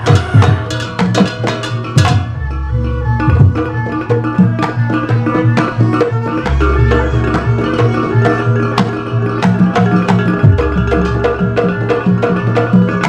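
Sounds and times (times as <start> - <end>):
hand drums: 0.0 - 13.0
held melodic tones: 0.0 - 13.0
violin: 0.0 - 13.0.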